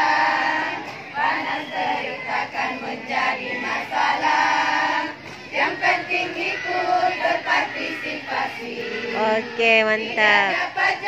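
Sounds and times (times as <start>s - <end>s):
women singing in unison: 0.0s - 11.0s.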